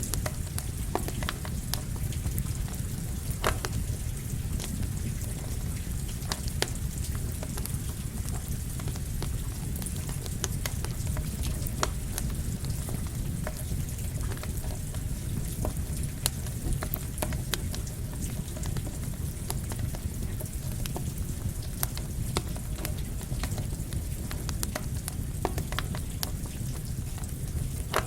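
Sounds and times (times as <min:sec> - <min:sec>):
campfire crackling and popping: 0:00.0 - 0:28.0
steady rain: 0:00.0 - 0:28.0.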